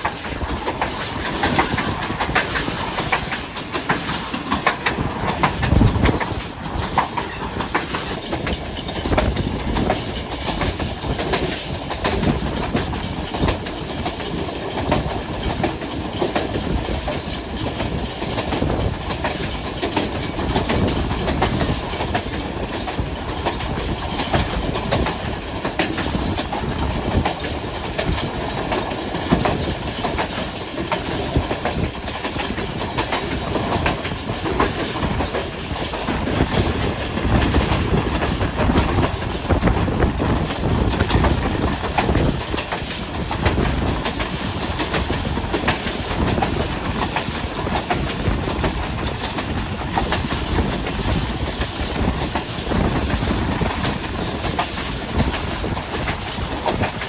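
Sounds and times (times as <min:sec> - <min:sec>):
train jolt: 0:00.0 - 0:57.0
train wheels clickety-clack: 0:00.0 - 0:57.0.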